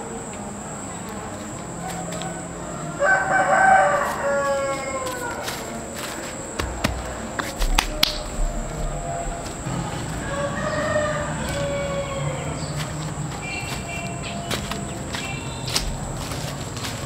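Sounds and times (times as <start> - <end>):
rooster crowing: 0.0 - 17.0.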